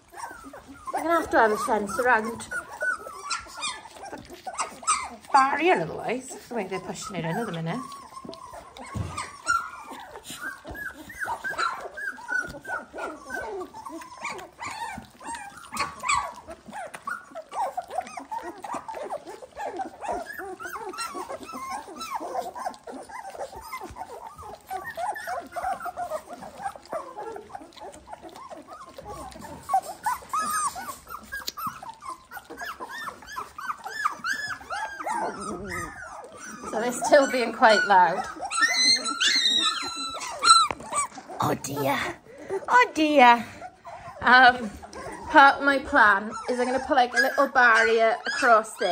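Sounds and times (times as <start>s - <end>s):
puppies whining and squeaking: 0.0s - 48.9s.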